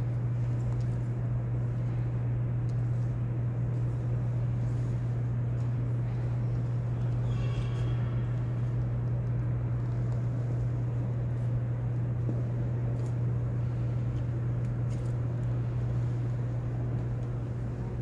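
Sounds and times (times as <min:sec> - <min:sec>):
rumbling room ambience: 0:00.0 - 0:18.0
steady low hum: 0:00.0 - 0:18.0.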